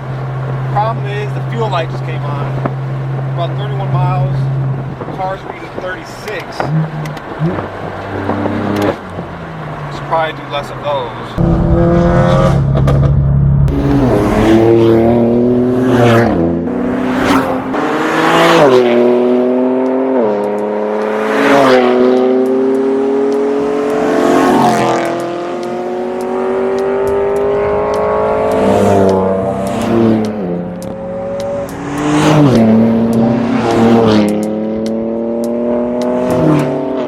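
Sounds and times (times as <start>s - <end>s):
car exhaust accelerating: 0.0s - 37.0s.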